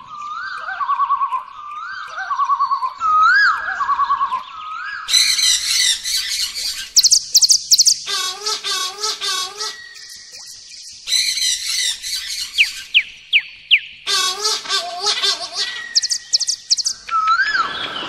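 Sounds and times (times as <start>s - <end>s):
small birds chirping and trilling: 0.0s - 18.0s.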